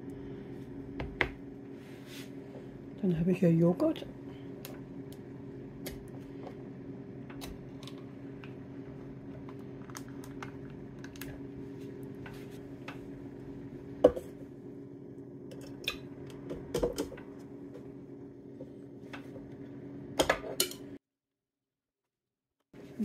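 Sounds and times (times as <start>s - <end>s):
air fryer humming: 0.0s - 21.0s.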